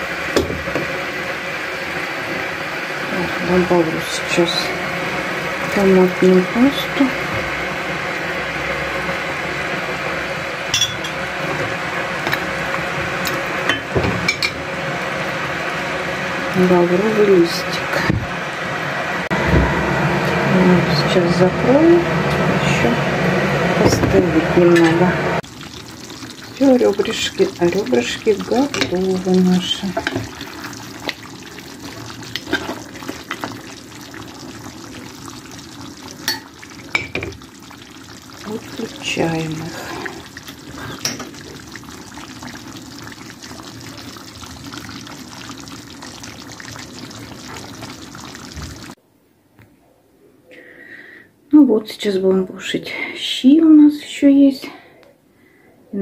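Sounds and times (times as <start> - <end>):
liquid simmering: 0.0 - 20.4, 21.7 - 49.0.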